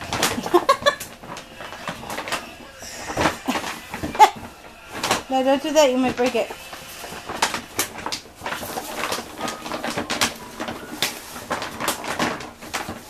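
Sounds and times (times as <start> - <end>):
wrapping paper rustling: 0.0 - 13.0.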